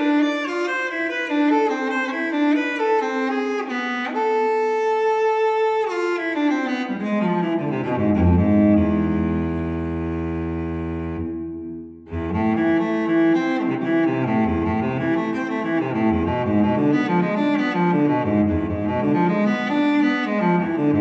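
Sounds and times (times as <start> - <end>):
bowed strings music: 0.0 - 21.0.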